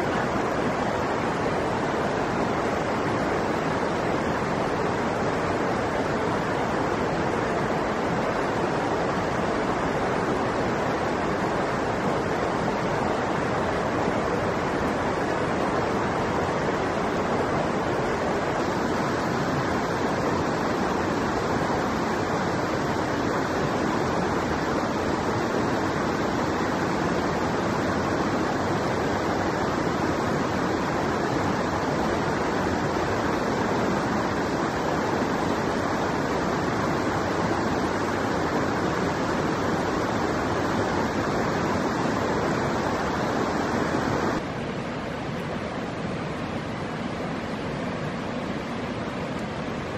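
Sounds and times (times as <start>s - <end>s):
river rushing: 0.0s - 49.9s.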